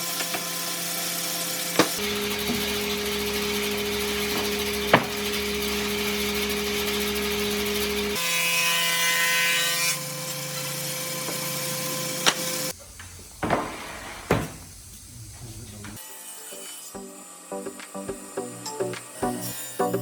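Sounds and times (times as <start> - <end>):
power tool working wood: 0.0 - 20.0.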